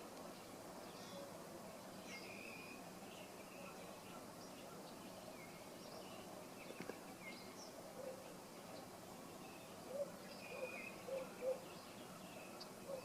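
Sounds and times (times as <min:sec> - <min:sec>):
low steady hiss: 0:00.0 - 0:13.0.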